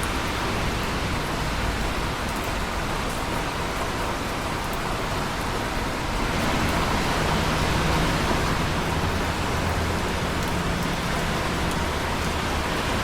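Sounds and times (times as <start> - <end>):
steady rain hissing: 0.0 - 13.0.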